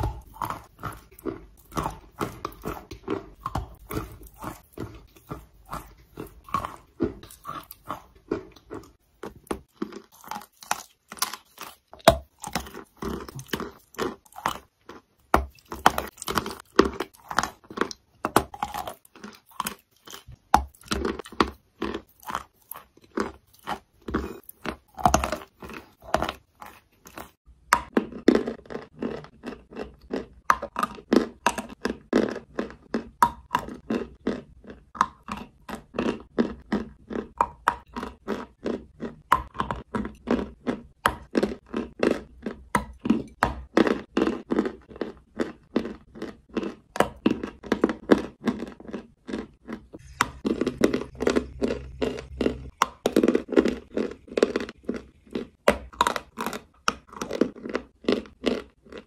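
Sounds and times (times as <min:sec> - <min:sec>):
chalk being chewed crunching: 0:00.0 - 0:59.0.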